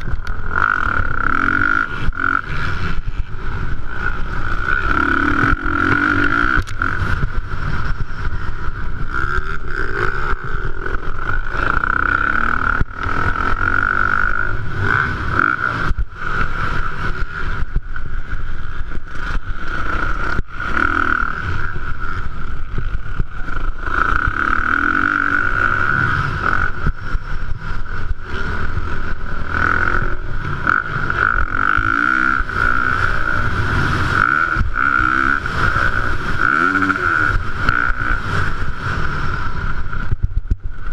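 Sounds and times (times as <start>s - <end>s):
motocross bike engine racing: 0.0s - 40.9s.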